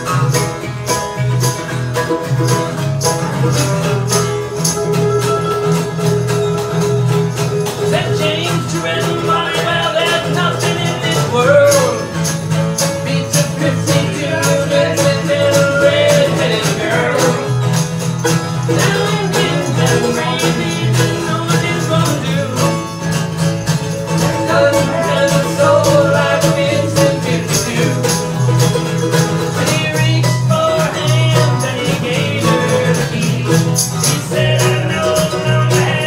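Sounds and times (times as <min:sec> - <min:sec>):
acoustic guitar strumming: 0:00.0 - 0:36.0
mandolin melody: 0:00.0 - 0:36.0.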